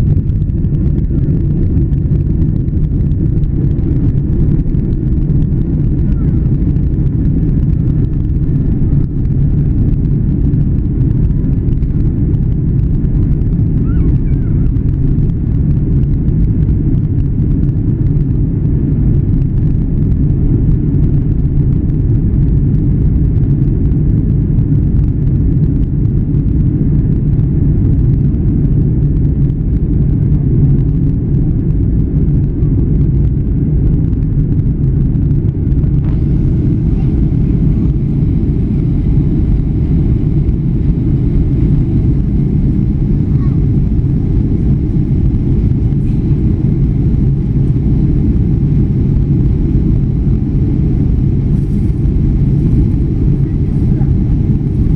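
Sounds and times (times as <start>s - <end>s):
airliner engines rumbling in cabin: 0.0s - 54.9s.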